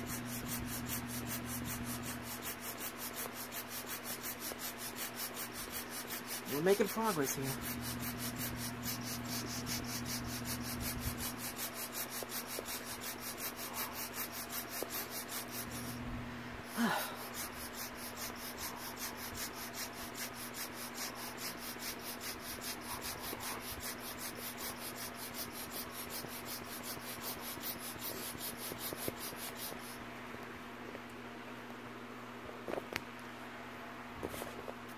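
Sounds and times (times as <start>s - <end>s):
air pump rasping strokes: 0.0s - 30.0s
low steady hum: 0.0s - 34.9s.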